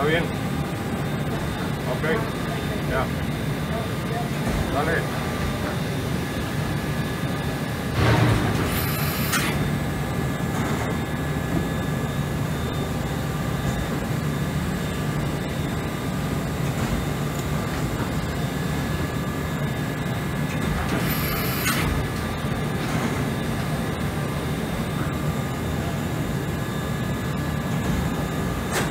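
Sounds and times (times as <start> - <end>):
machine spindle hum: 0.0 - 28.9.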